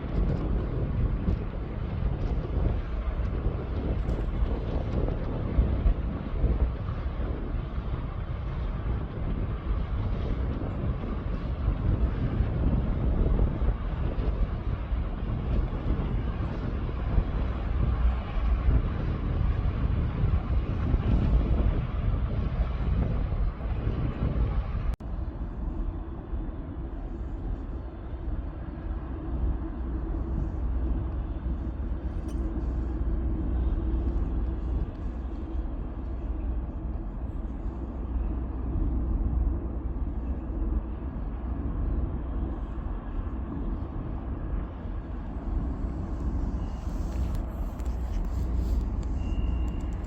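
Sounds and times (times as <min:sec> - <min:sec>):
low rumble: 0:00.0 - 0:50.0.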